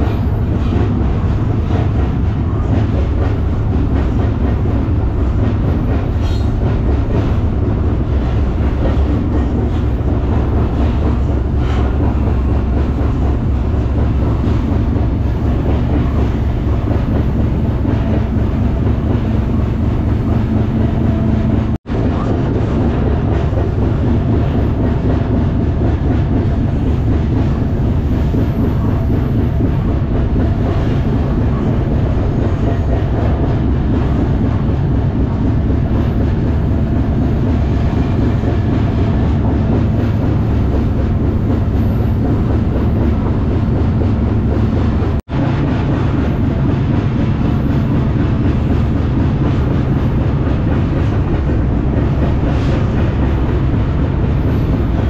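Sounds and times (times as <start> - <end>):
steel wheels on rails: 0.0 - 55.0
train car rattling: 0.0 - 55.0.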